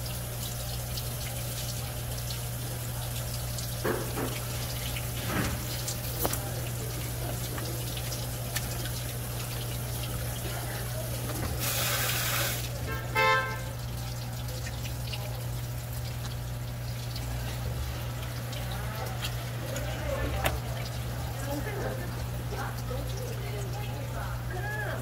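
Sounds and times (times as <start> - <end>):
tap water spraying: 0.0 - 25.0.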